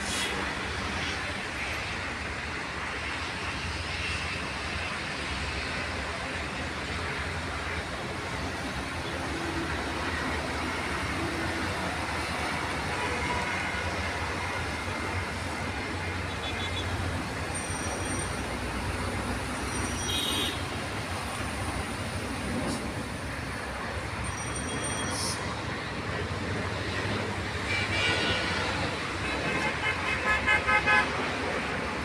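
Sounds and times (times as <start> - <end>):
city traffic rumble: 0.0 - 32.0.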